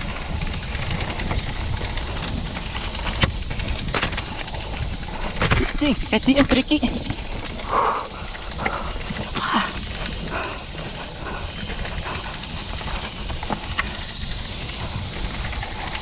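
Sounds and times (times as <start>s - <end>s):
mountain bike rattling over dirt: 0.0s - 16.0s.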